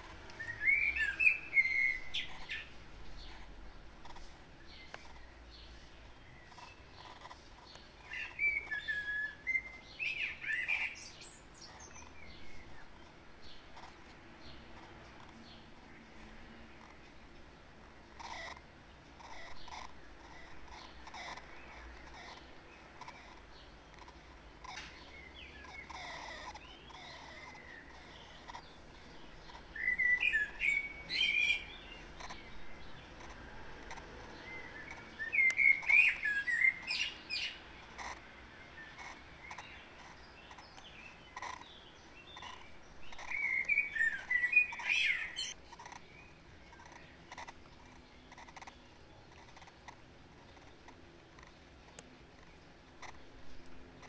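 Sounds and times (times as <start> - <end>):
bird chirping: 0.0 - 54.0
low background hiss: 0.0 - 54.0.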